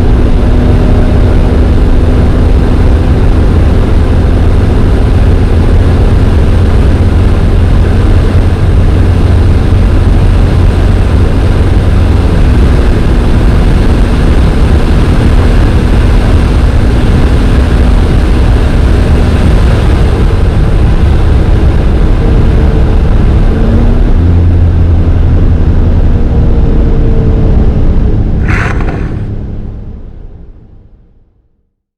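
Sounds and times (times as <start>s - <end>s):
car engine at high speed: 0.0s - 30.5s
wind and road noise: 0.0s - 31.2s.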